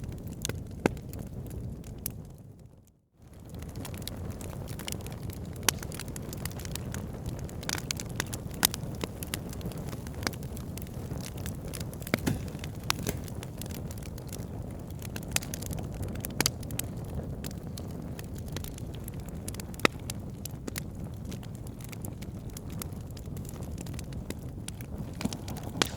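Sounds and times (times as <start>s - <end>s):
fire crackling and popping: 0.0s - 25.9s
low rumble of flames: 0.0s - 25.9s.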